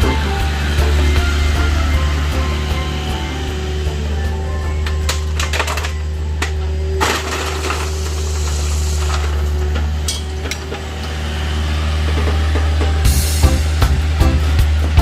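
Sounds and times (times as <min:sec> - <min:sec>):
low drone: 0:00.0 - 0:15.0.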